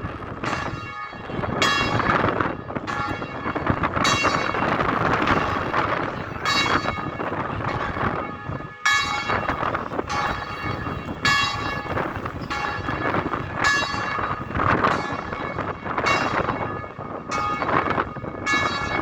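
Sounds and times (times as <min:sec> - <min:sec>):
wind noise: 0:00.0 - 0:19.0
bells ringing: 0:00.4 - 0:19.0.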